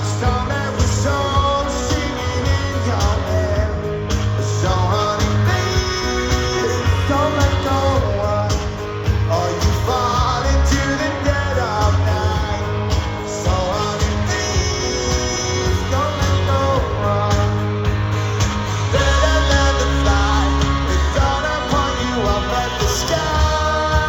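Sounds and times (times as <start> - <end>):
live rock band playing: 0.0 - 24.0
man singing lead vocal: 0.0 - 24.0.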